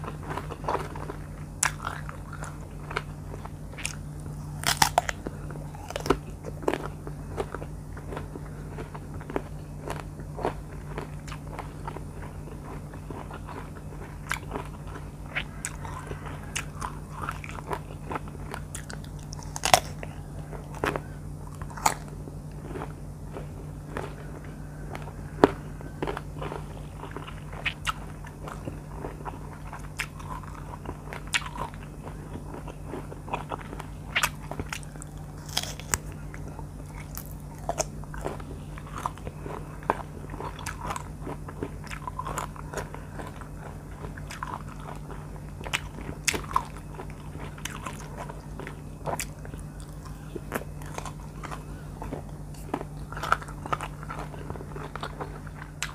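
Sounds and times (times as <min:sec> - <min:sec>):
biting and chewing crunchy fruit: 0:00.0 - 0:55.9
steady low hum: 0:00.0 - 0:55.9.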